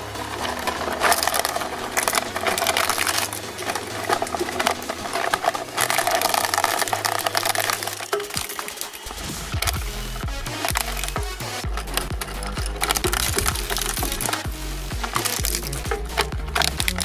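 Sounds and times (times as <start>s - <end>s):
shredding crackling and clicking: 0.0s - 17.0s.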